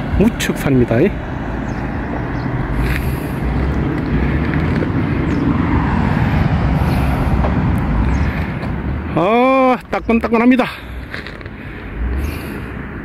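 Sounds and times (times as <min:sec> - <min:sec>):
road noise: 0:00.0 - 0:13.0
wind rumble on microphone: 0:00.0 - 0:13.0.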